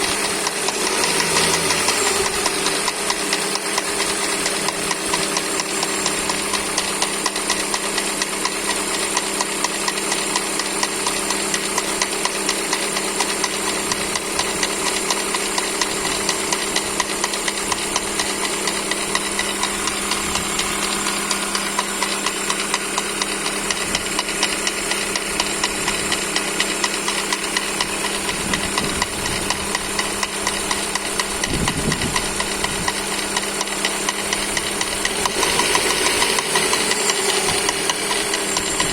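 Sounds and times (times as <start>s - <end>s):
car engine running: 0.0s - 38.9s
heavy engine knock ticking: 0.0s - 38.9s.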